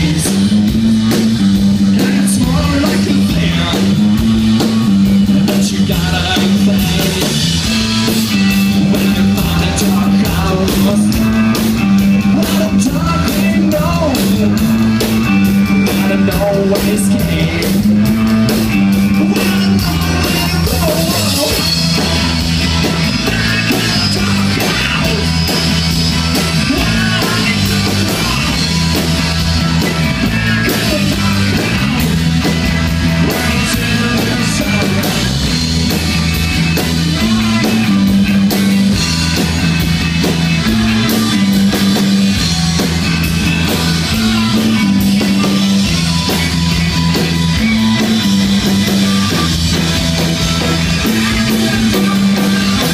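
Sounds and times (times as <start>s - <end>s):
drum kit: 0.0s - 52.9s
electric bass riff: 0.0s - 52.9s
electric guitar: 0.0s - 52.9s.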